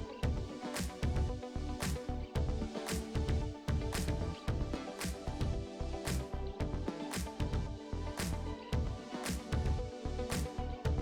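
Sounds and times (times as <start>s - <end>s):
synth music with bass and drums: 0.0s - 11.0s.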